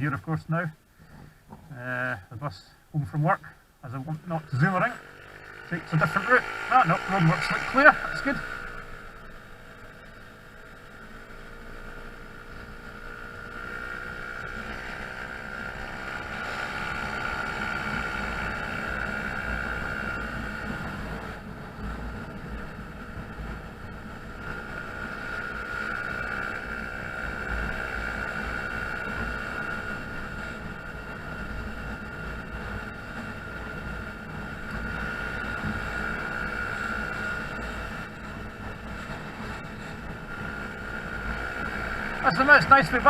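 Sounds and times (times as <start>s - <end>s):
scooter engine running: 4.3s - 43.0s.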